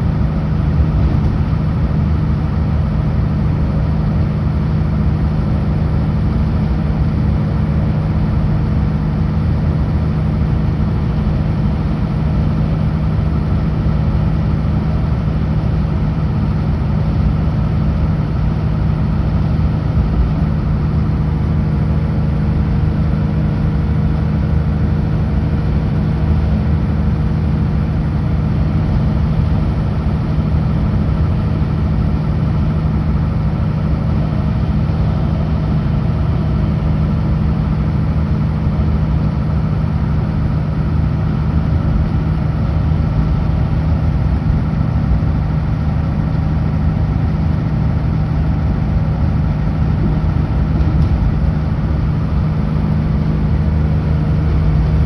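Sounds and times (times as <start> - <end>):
road noise: 0.0 - 55.0
truck diesel engine droning: 0.0 - 55.0.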